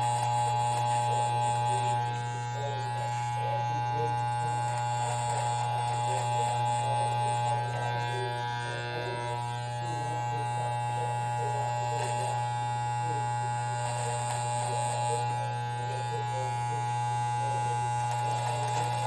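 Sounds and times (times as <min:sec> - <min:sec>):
electric shaver buzzing: 0:00.0 - 0:19.0.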